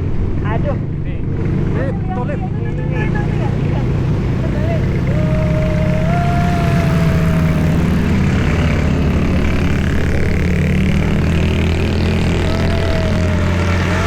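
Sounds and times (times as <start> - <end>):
car engine running: 1.1 - 14.0.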